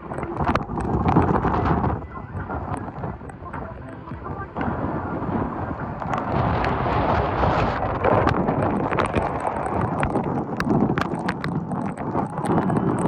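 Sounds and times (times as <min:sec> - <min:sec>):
steady rushing noise: 0:00.0 - 0:13.0
wind buffeting microphone: 0:00.0 - 0:13.0.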